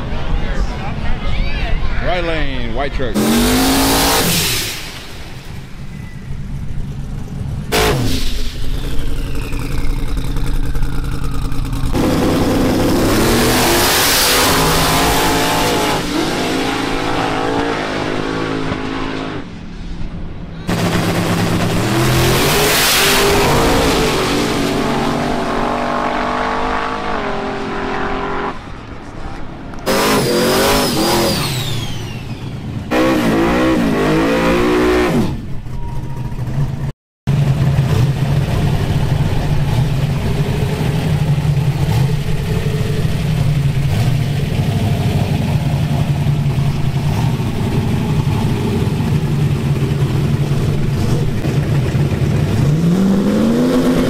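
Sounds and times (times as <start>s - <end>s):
drag racing engines revving: 2.1s - 19.7s, 20.6s - 28.8s, 29.8s - 54.0s.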